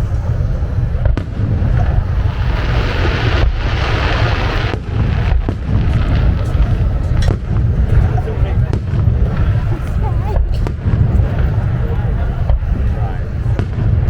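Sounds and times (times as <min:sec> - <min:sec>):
fireworks booming: 0:00.0 - 0:14.0
fireworks hissing crackle: 0:00.0 - 0:14.0.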